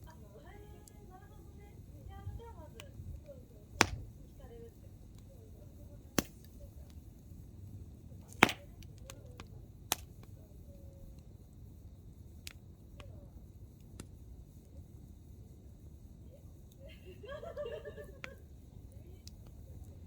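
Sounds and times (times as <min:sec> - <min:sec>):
firewood popping: 0:00.0 - 0:16.0, 0:18.1 - 0:20.0
low rumble of burning: 0:00.0 - 0:20.0.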